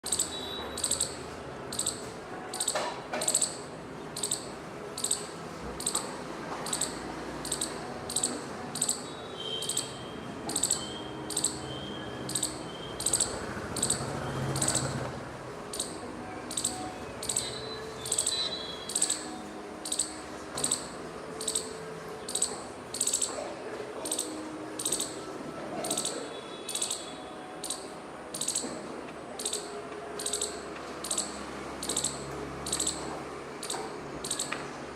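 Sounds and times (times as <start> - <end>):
squirrel chip calls: 0.0 - 15.0, 15.7 - 23.4, 24.0 - 25.2, 25.8 - 28.8, 29.4 - 34.6.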